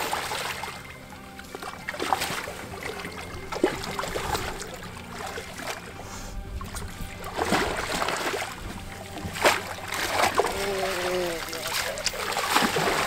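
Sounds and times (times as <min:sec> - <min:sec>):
water splashing around net: 0:00.0 - 0:06.0, 0:06.6 - 0:13.0
music: 0:00.0 - 0:13.0.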